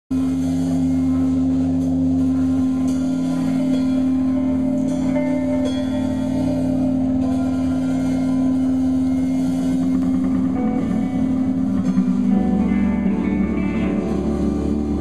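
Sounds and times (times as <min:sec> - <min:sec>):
higher guitar notes: 0:00.2 - 0:15.0
rock band droning chord: 0:00.2 - 0:15.0.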